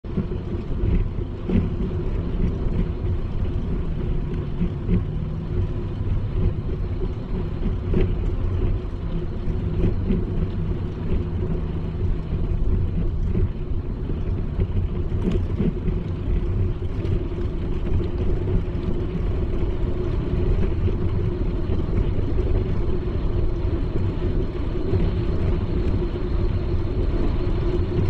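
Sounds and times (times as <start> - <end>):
bicycle rolling over paving stones: 0.1 - 28.0.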